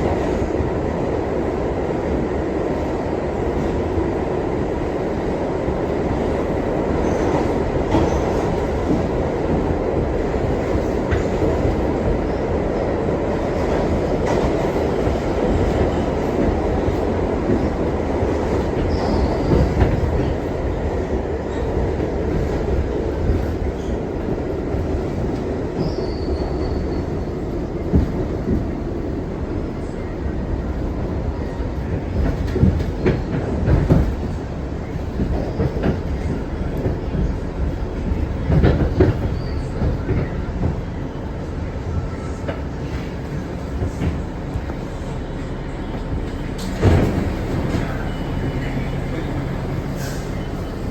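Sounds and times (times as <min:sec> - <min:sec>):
subway car rumble: 0:00.0 - 0:50.9.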